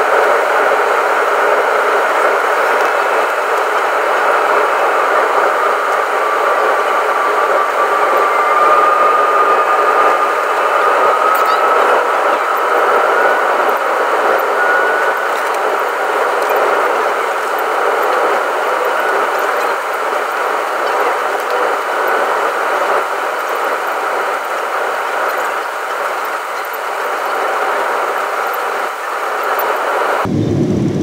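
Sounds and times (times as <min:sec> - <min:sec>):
airliner cabin noise: 0:00.0 - 0:31.0.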